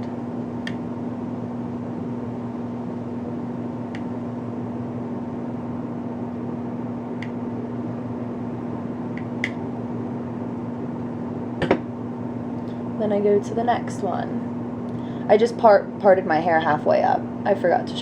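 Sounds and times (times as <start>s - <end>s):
electrical hum: 0.0s - 18.0s
fan noise: 0.0s - 18.0s.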